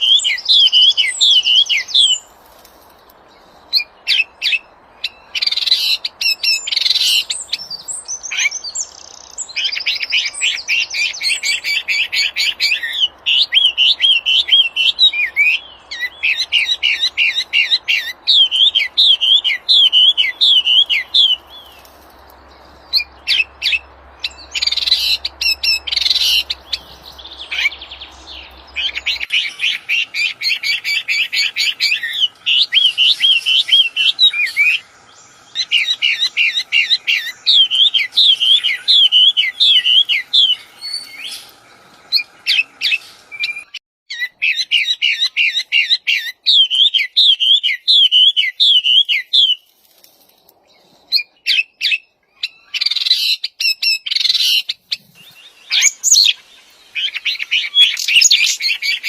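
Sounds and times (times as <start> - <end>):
songbird chattering and whistling: 0.0 - 2.3, 3.7 - 21.9, 22.9 - 49.6, 51.2 - 59.0
sharp bird calls: 0.0 - 2.4, 3.0 - 49.7, 51.0 - 59.0.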